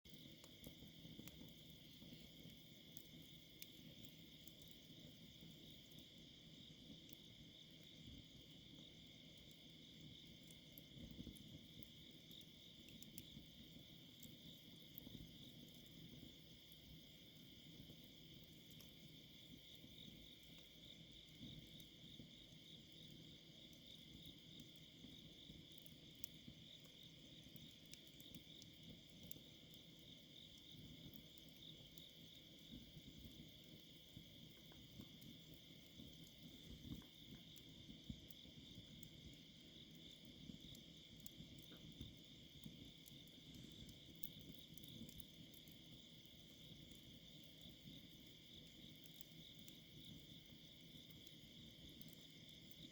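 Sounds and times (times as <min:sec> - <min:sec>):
campfire crackling: 0:00.1 - 0:52.9
crickets trilling: 0:00.1 - 0:52.9.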